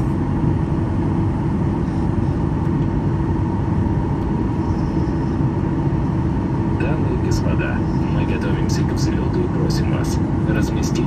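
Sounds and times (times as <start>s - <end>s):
jet cabin noise while taxiing: 0.0s - 11.0s.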